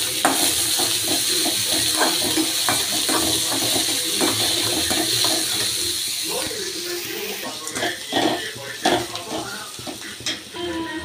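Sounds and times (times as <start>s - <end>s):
onions sizzling in hot oil: 0.0s - 11.0s
spoon scraping a pan: 0.0s - 11.0s.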